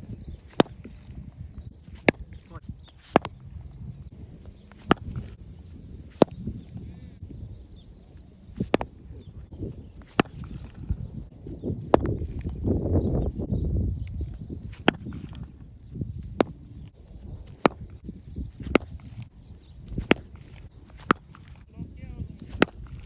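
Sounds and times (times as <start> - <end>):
cricket bat striking ball: 0.2 - 1.2, 1.9 - 6.9, 8.0 - 13.2, 14.1 - 21.7, 22.3 - 23.0.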